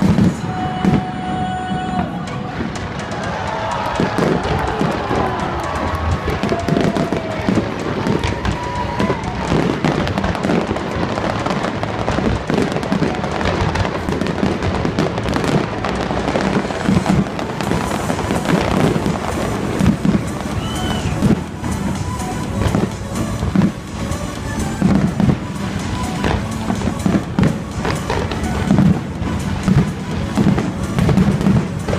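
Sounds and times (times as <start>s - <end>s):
fireworks bangs and crackles: 0.0s - 31.9s
music playing: 0.0s - 31.9s.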